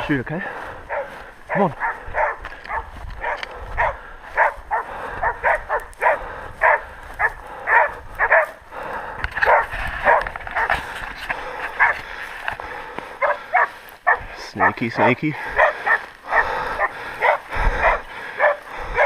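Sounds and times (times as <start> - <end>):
dogs barking: 0.7 - 19.0.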